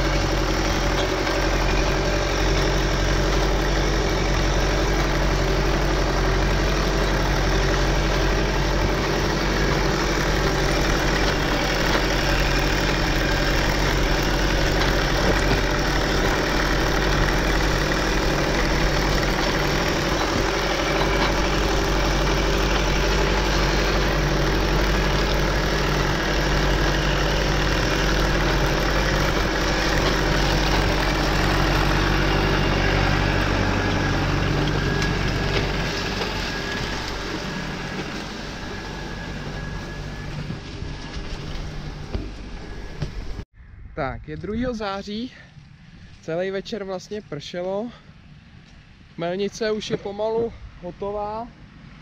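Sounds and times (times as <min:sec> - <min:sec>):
tractor diesel engine droning: 0:00.0 - 0:43.9.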